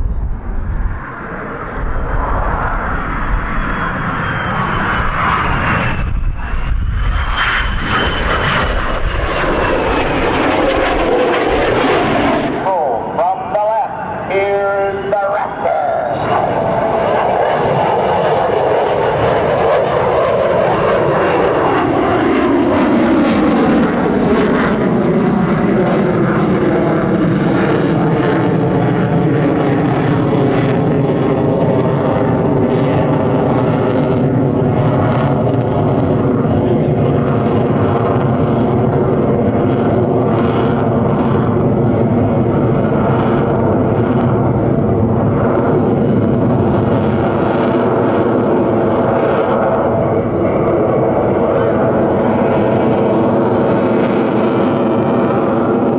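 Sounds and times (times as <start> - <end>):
jet flying by: 0.0 - 55.9.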